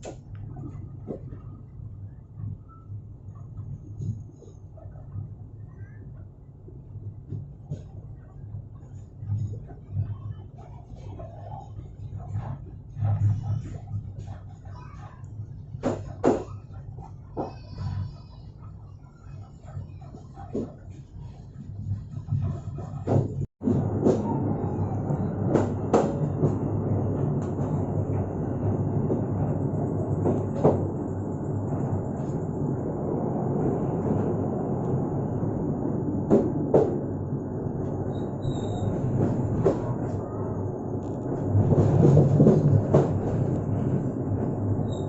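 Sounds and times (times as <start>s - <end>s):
train wheels rumbling on rail: 5.4s - 45.0s.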